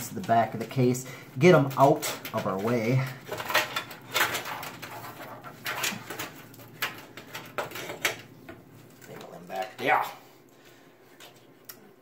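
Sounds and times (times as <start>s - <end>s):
cables rustling and scraping: 0.0s - 12.0s.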